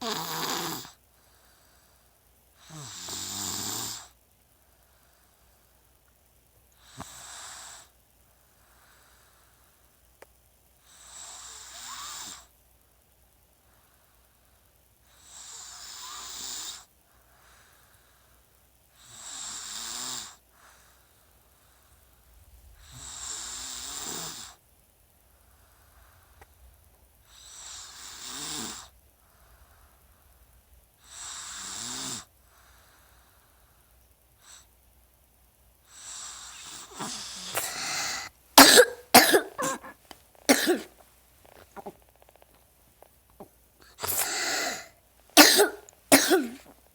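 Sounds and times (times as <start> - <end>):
rhythmic breathy snoring: 0.0 - 5.8, 6.8 - 9.9, 10.8 - 12.5, 13.6 - 24.6, 27.2 - 34.7, 35.8 - 42.6, 43.4 - 46.9.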